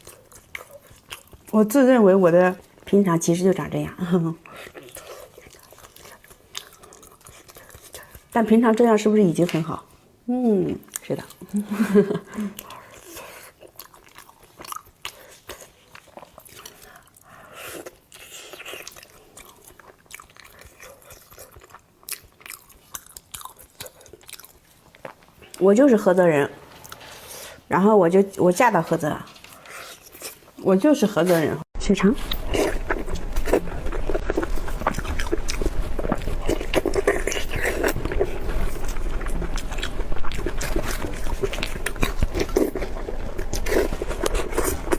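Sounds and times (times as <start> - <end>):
chewing and crunching: 0.0 - 9.8, 10.8 - 25.6, 28.2 - 30.6, 32.2 - 44.9.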